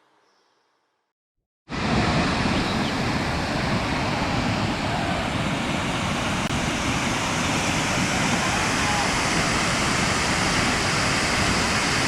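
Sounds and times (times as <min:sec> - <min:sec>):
waterfall rushing: 0:01.7 - 0:12.0.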